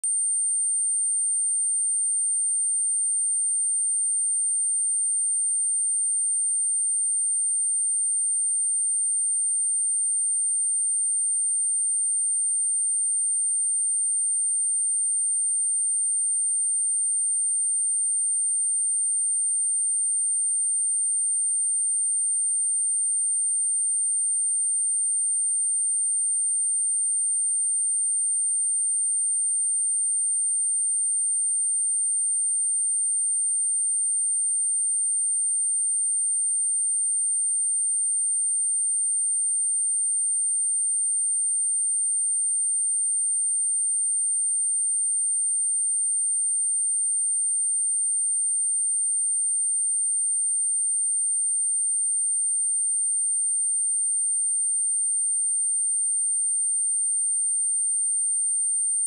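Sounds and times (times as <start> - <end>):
high-pitched sine test tone: 0.0 - 41.8, 42.6 - 59.0.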